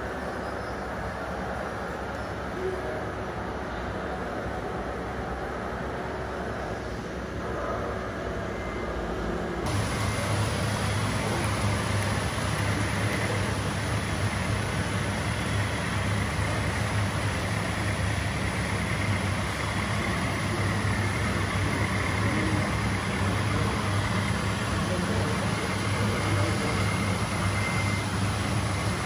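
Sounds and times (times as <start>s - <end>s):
model truck engine: 0.0s - 29.0s.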